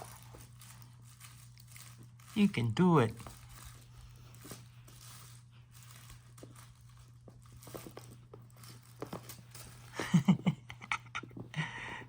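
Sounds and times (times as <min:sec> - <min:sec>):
kitten playing with toys: 0:00.0 - 0:12.0.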